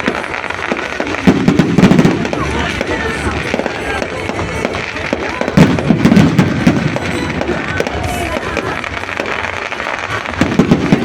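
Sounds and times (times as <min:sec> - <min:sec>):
firecrackers cracking and popping: 0:00.0 - 0:11.0
people's voices: 0:00.0 - 0:11.0.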